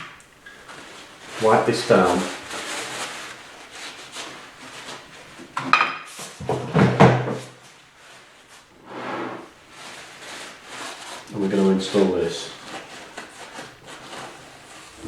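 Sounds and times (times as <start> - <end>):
faint rubbing: 0.5 - 5.4, 7.5 - 15.0.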